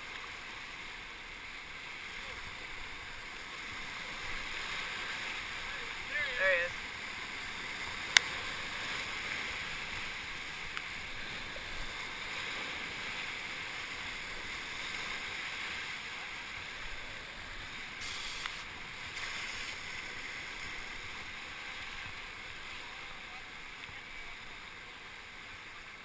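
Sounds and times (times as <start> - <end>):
whitewater river rushing: 0.0 - 26.0.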